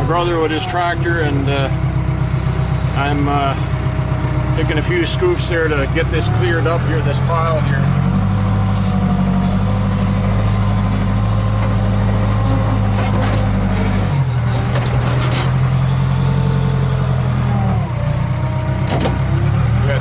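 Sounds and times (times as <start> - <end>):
diesel engine running: 0.0 - 20.0
loader scooping dirt: 0.0 - 20.0.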